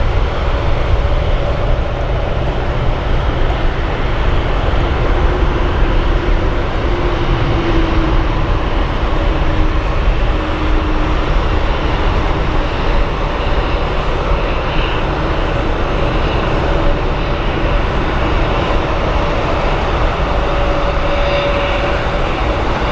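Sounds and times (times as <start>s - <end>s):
jet engines running: 0.0s - 22.9s.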